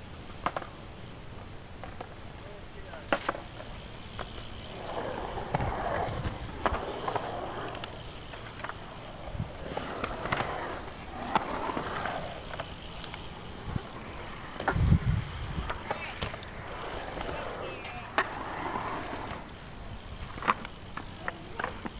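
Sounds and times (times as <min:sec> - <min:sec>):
bike tyres rolling on concrete: 0:00.0 - 0:21.9
bike clicks and knocks: 0:00.3 - 0:00.7, 0:01.4 - 0:02.2, 0:02.9 - 0:18.3, 0:19.5 - 0:21.9.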